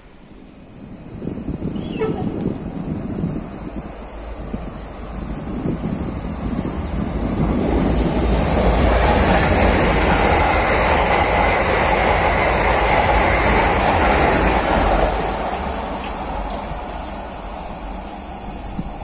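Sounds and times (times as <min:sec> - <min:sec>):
train wheels rumbling: 0:00.0 - 0:19.0.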